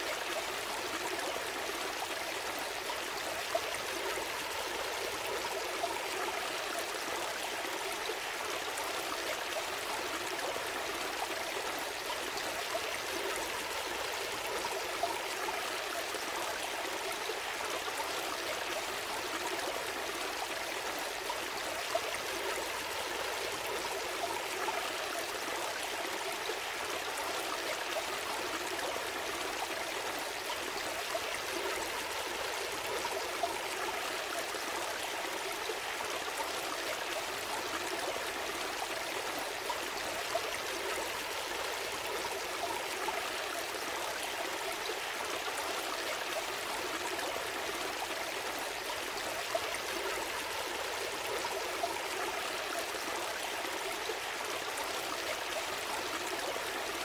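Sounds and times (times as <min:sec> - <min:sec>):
gentle stream flowing: 0:00.0 - 0:57.0.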